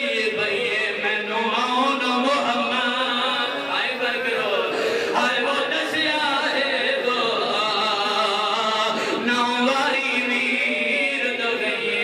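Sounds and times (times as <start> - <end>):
man chanting into a microphone: 0.0 - 12.0.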